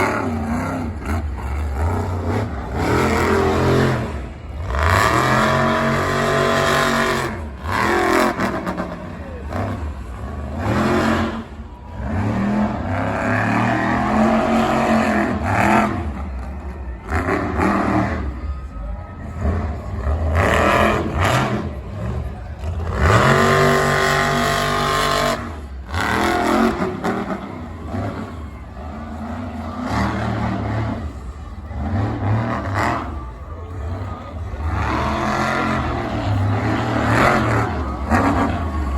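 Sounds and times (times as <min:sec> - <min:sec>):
truck engine revving: 0:00.0 - 0:38.9.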